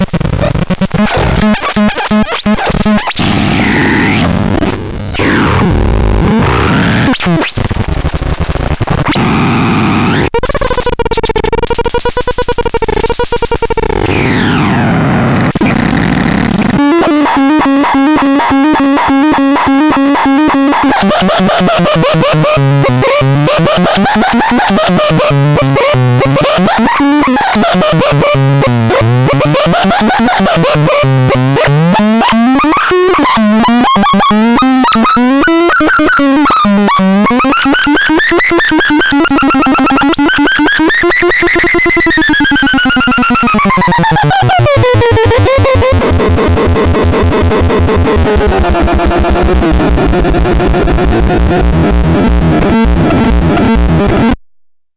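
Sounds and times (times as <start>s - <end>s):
synthetic warbling tones: 0.0s - 46.1s.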